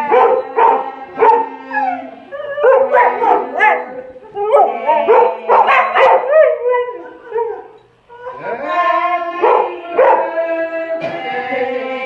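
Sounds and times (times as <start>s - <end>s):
dogs howling and barking: 0.0s - 8.7s, 9.4s - 10.4s.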